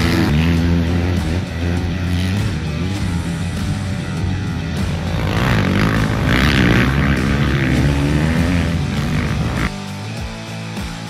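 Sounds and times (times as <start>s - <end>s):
background music with guitar: 0.0s - 11.0s
motocross bike engines running: 0.0s - 11.0s.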